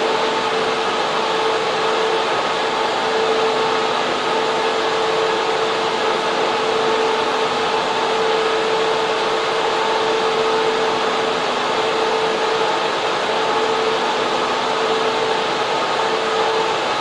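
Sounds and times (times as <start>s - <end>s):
server fans whirring: 0.0s - 17.0s.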